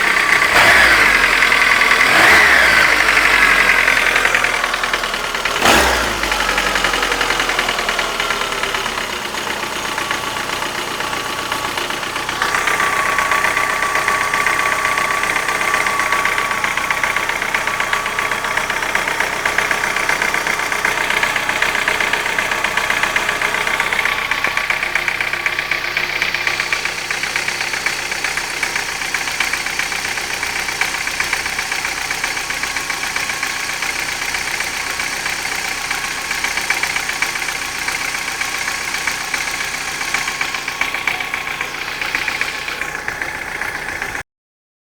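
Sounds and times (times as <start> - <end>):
car engine idling with tapping: 0.0 - 44.2.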